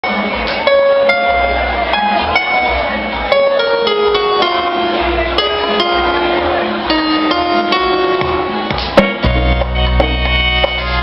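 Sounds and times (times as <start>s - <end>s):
band playing melody: 0.0s - 11.0s
pulsing bass: 1.0s - 11.0s.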